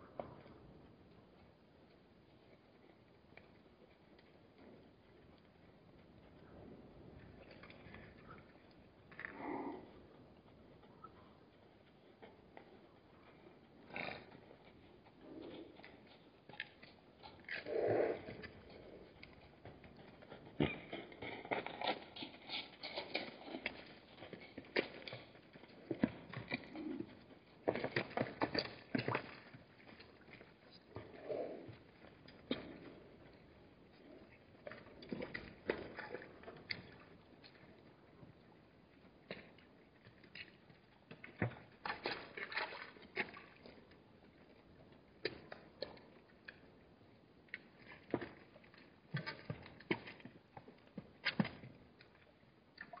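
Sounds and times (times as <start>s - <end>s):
hooves clicking on stony ground: 0.0s - 53.0s.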